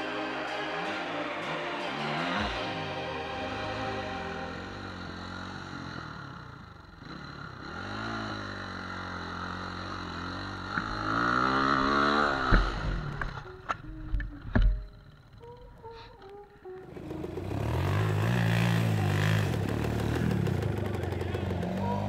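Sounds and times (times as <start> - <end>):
dirt bike engine revving: 0.0 - 14.0, 14.8 - 22.0.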